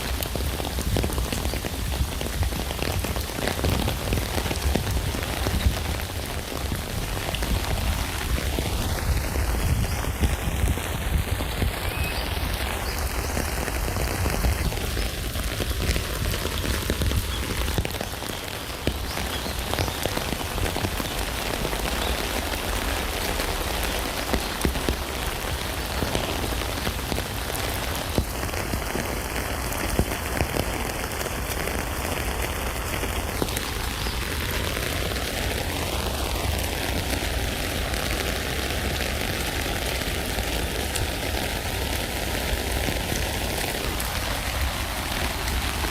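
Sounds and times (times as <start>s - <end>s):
rain drops tapping on tent fabric: 0.0s - 45.9s.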